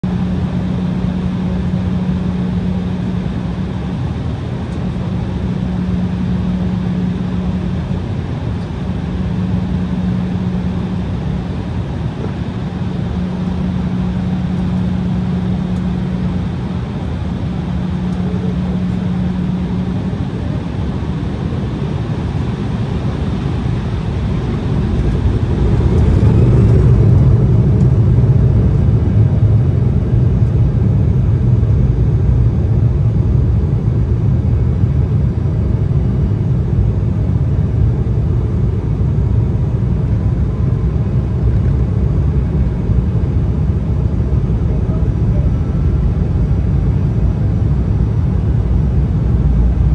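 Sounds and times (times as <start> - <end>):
faint rising engine whine: 0.0 - 49.9
jet engine and airframe rumble: 0.0 - 49.9.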